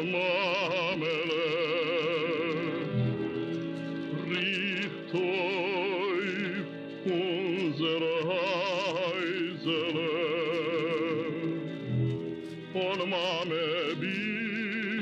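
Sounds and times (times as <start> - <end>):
man singing opera: 0.0 - 3.2, 4.0 - 11.8, 12.7 - 15.0
musical accompaniment: 0.0 - 15.0.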